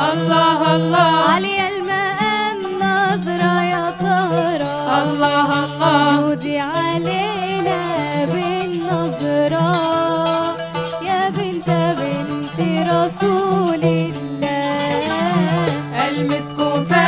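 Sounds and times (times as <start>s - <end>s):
instrumental accompaniment: 0.0s - 17.0s
young female voices singing: 0.0s - 17.0s.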